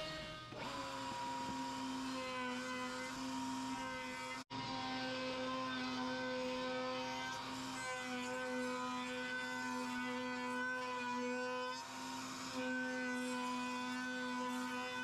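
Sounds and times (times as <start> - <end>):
router high hum: 0.0 - 15.0.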